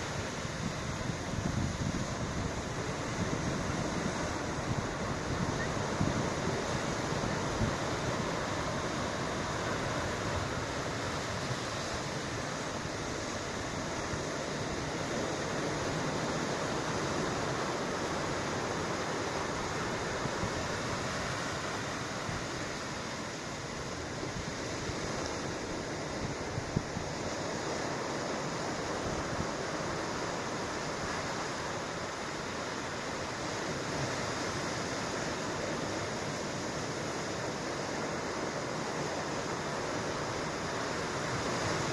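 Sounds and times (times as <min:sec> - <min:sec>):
ocean surf washing in: 0:00.0 - 0:41.9
wind: 0:00.0 - 0:41.9.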